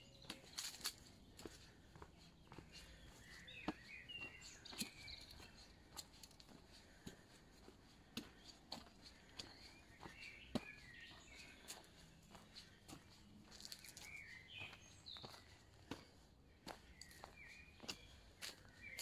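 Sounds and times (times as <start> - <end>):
bird chirps: 0.0 - 6.8, 8.2 - 19.0
footsteps on gravel path: 0.0 - 19.0.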